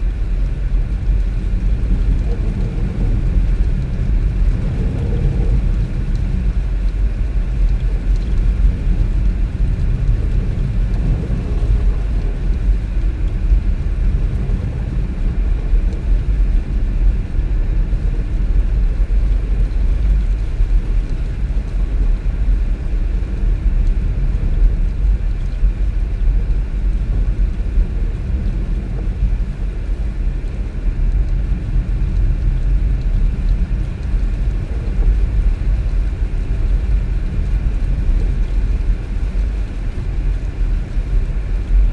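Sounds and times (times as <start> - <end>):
moving vehicle rumble: 0.0 - 41.9.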